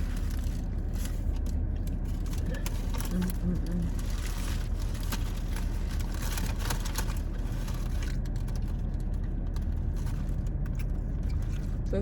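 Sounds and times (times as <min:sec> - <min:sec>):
food wrappers crinkling: 0:00.0 - 0:11.9
car idling hum: 0:00.0 - 0:12.0.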